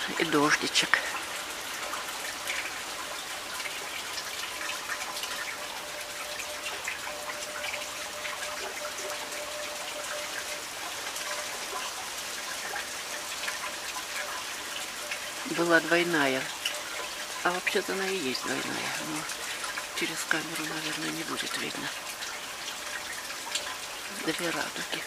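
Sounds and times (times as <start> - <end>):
light rain patter: 0.0 - 25.0.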